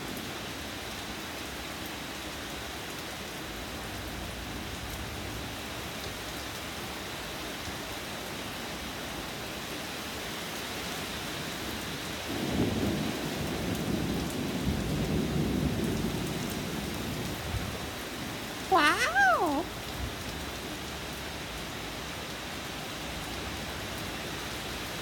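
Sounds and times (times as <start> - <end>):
steady rain hissing: 0.0 - 25.0.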